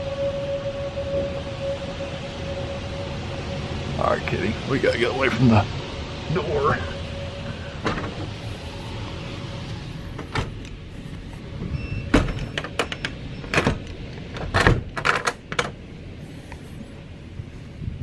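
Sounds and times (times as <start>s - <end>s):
storm wind rushing: 0.0s - 18.0s.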